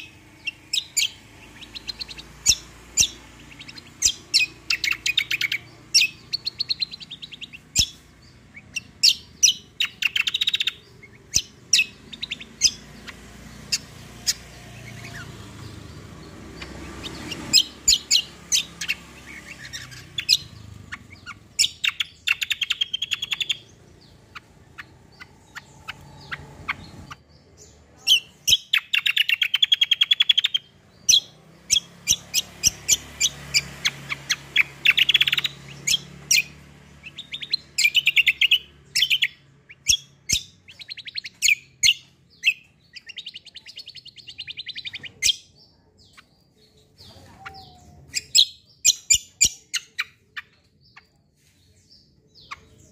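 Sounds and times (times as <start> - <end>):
songbird chirping and trilling: 0.0 - 52.9.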